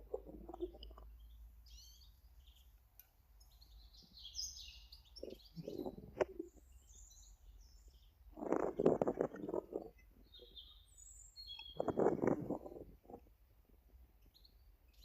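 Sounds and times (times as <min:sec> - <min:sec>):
small birds chirping: 0:00.0 - 0:13.3, 0:14.0 - 0:15.0.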